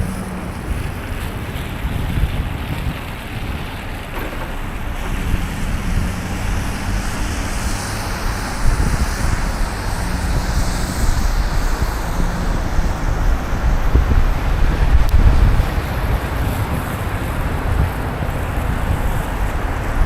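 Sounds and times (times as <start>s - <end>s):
tyres on road: 0.0s - 20.0s
vehicle engines running: 0.0s - 20.0s
wind rumbling on microphone: 0.0s - 20.0s.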